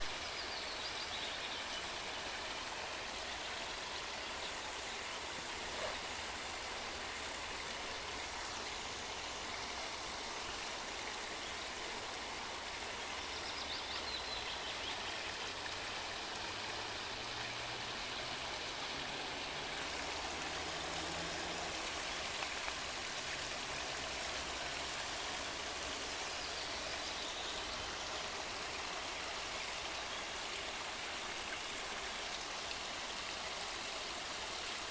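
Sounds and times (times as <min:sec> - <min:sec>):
forest stream flowing: 0:00.0 - 0:34.9.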